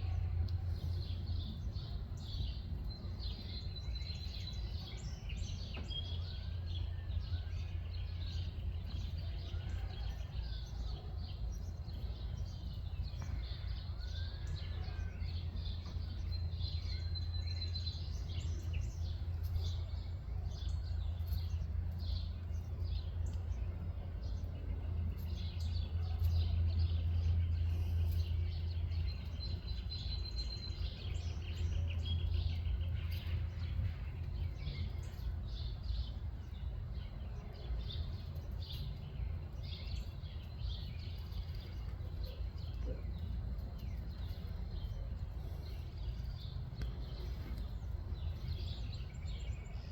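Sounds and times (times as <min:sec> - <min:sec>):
birds chirping and calling: 0:00.0 - 0:49.9
low rumble: 0:00.0 - 0:49.9.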